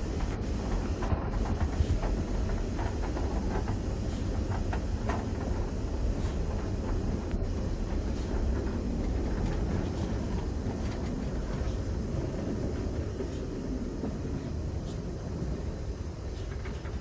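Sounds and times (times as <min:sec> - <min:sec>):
train rumbling past: 0:00.0 - 0:17.0
wheels clicking on rails: 0:00.0 - 0:17.0.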